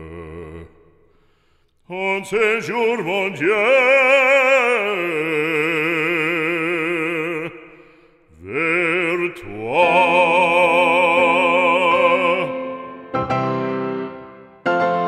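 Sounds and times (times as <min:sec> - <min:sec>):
operatic male voice singing: 0:00.0 - 0:01.0, 0:01.8 - 0:13.1.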